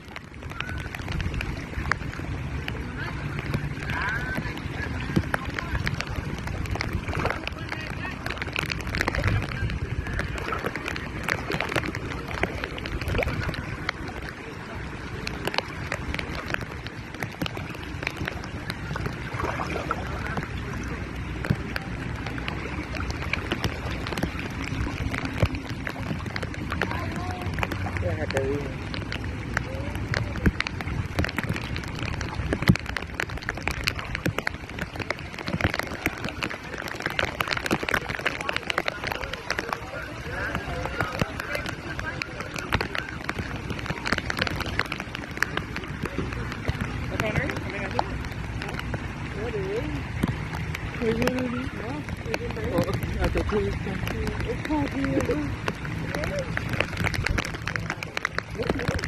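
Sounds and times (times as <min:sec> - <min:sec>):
low rumble of water: 0:00.0 - 0:59.0
raindrops hitting close by: 0:00.0 - 0:59.0
small water splashes: 0:00.0 - 0:59.0.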